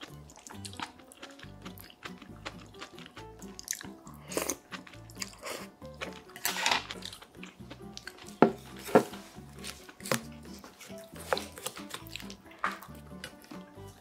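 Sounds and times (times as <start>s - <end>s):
background music with bass line: 0.0s - 14.0s
slurping and chewing: 0.0s - 14.0s.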